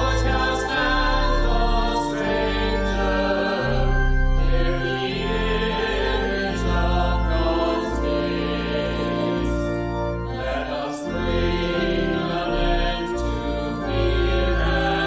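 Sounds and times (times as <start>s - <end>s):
choir singing a hymn: 0.0s - 15.0s
instrumental accompaniment: 0.0s - 15.0s.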